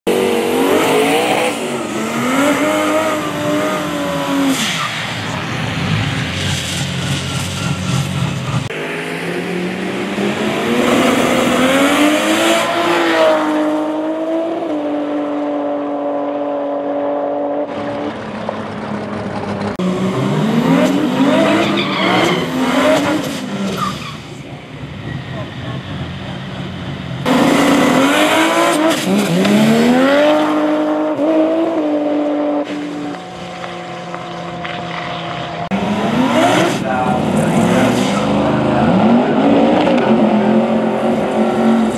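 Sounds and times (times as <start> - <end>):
car engine revving: 0.1 - 24.2, 25.2 - 41.9.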